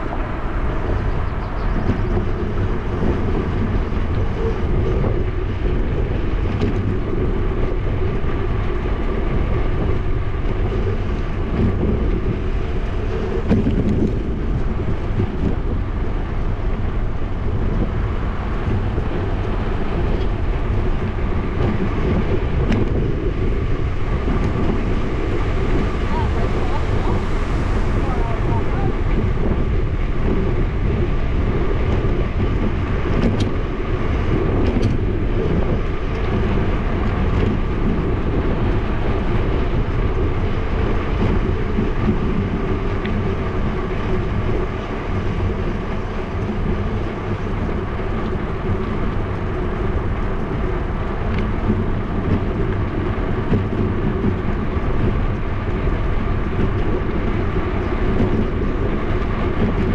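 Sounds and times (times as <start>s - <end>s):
tyre and road rumble: 0.0s - 59.9s
wind on microphone: 0.0s - 59.9s.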